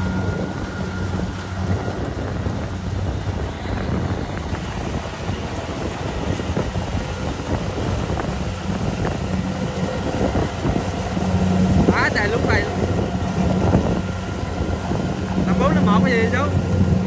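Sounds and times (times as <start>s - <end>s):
engine hum: 0.0s - 17.0s
mechanical rushing noise: 0.0s - 17.0s.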